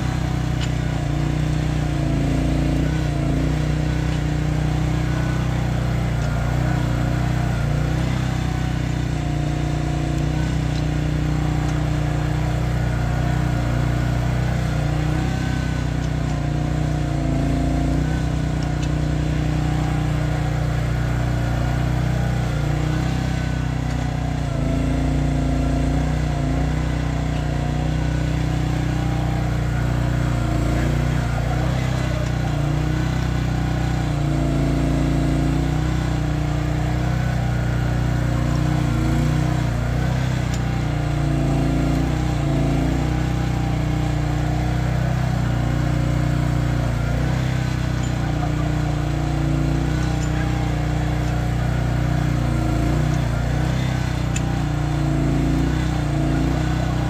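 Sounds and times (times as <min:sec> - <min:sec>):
excavator engine running: 0:00.0 - 0:57.0
wavering hydraulic whine: 0:00.0 - 0:57.0.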